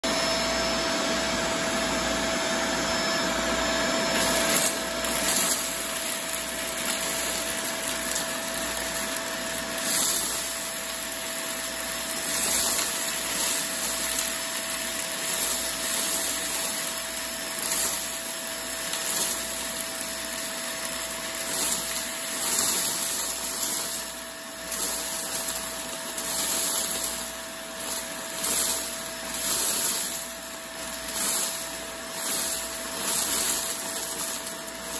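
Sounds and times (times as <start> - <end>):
vacuum cleaner motor whine: 0.0 - 34.9
debris rattling up vacuum hose: 4.1 - 34.9.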